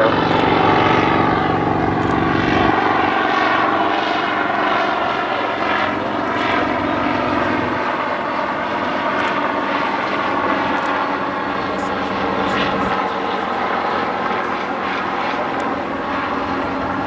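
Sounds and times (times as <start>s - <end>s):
helicopter piston engine running: 0.0s - 17.0s.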